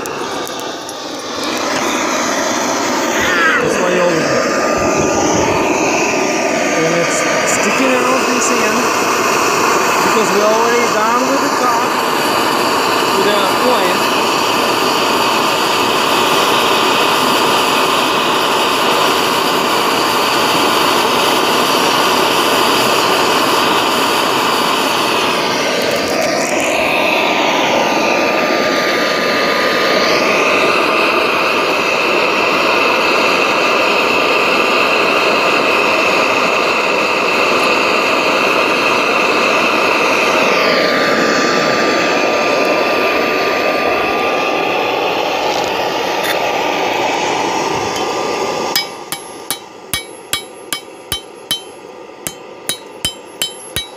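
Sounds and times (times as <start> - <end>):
propane forge burner roaring: 0.0 - 53.9.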